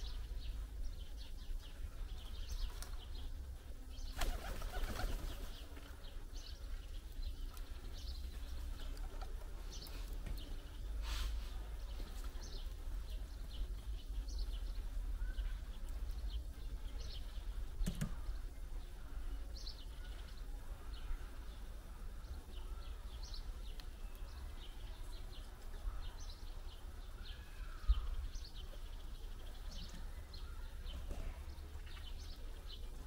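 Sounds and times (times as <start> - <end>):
garden birds chirping: 0.0 - 33.0.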